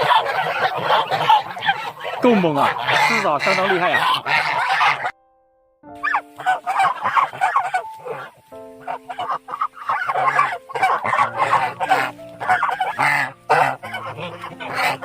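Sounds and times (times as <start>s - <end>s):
geese honking: 0.0s - 5.2s, 6.0s - 15.0s.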